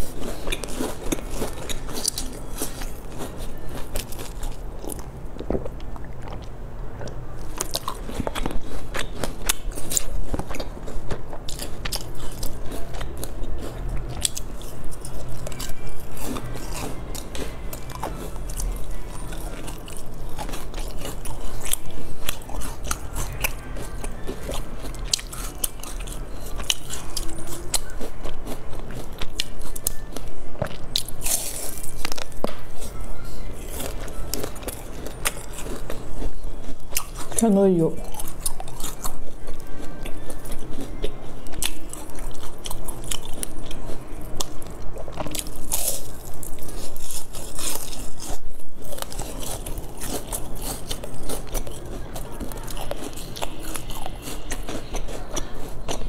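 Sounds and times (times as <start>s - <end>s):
crunchy chewing of pastries: 0.0s - 56.0s.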